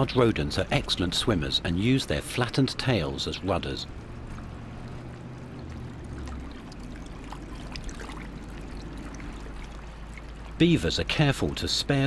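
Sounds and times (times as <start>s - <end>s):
low engine hum: 0.0s - 12.0s
river water lapping: 0.0s - 12.0s.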